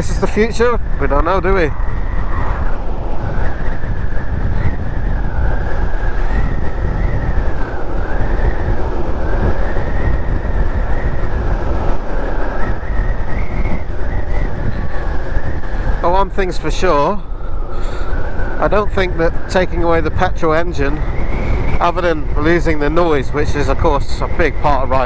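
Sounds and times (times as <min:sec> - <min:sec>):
tyre and road noise: 0:00.0 - 0:25.0
wind buffeting microphone: 0:00.0 - 0:25.0.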